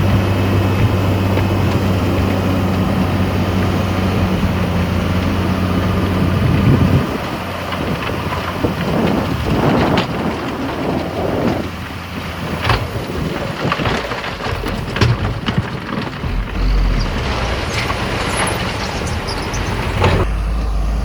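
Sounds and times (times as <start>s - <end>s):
clatter: 0.0s - 20.4s
diesel engine hum: 0.0s - 21.0s
rough rushing rumble: 0.0s - 21.0s.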